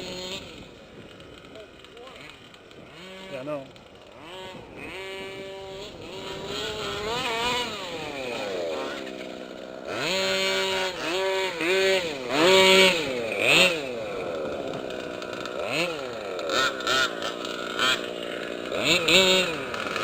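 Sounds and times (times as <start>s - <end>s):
small two-stroke engine revving: 0.0s - 20.0s.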